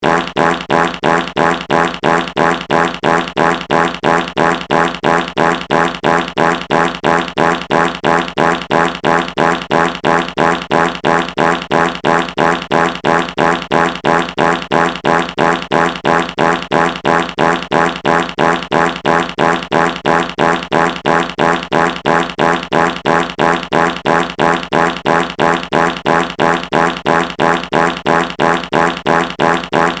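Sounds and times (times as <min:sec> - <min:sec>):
looping fart sound effect: 0:00.0 - 0:30.0.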